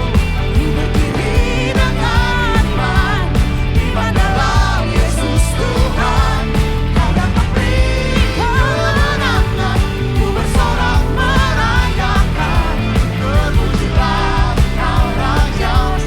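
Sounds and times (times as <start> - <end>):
live rock band playing: 0.0 - 16.0
steady drum beat: 0.0 - 16.0.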